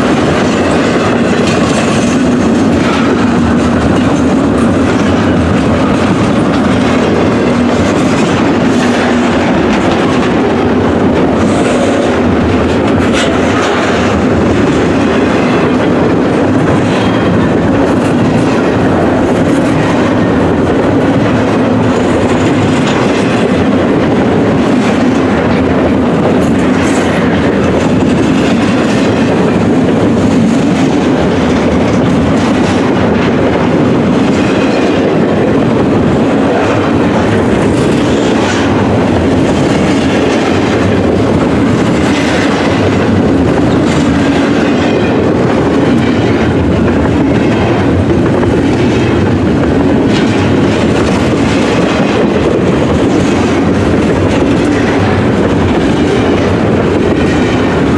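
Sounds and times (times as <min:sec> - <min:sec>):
clickety-clack over rail joints: 0:00.0 - 0:57.9
steel wheels on rail: 0:00.0 - 0:57.9.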